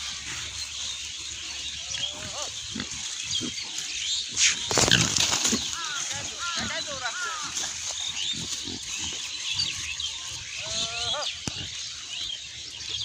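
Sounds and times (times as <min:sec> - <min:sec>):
pigs grunting: 0:00.0 - 0:12.4.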